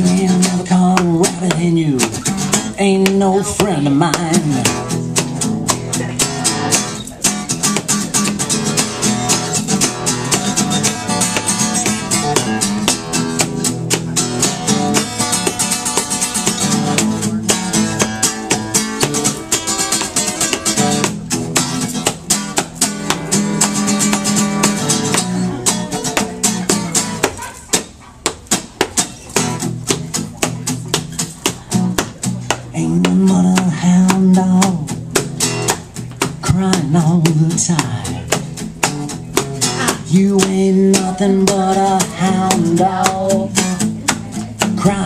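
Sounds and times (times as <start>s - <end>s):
acoustic guitar fast strumming: 0.0s - 45.0s.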